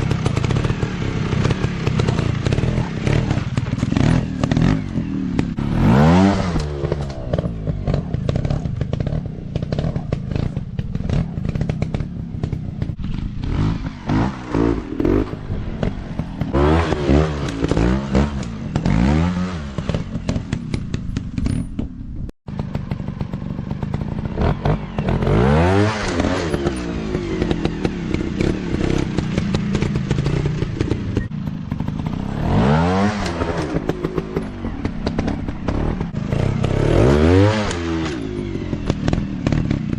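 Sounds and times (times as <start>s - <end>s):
dirt bike engines revving: 0.0s - 21.4s, 22.5s - 39.9s
clatter: 0.0s - 39.9s.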